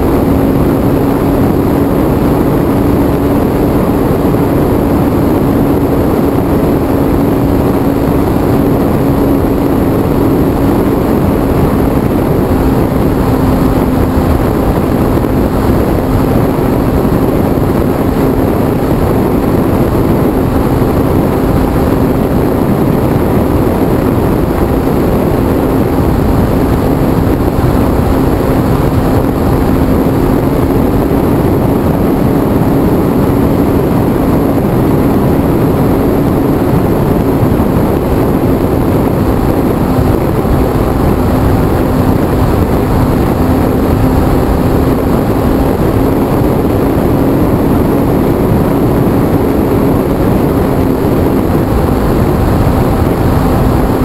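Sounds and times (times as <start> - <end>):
model airplane motor droning: 0.0 - 54.0
wind rush on microphone: 0.0 - 54.0.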